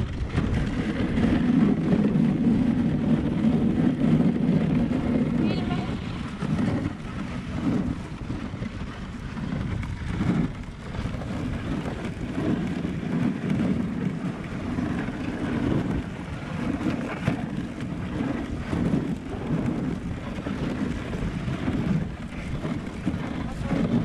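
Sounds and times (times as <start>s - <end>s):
sled runners scraping on snow: 0.0s - 24.0s
wind buffeting microphone: 0.0s - 24.0s.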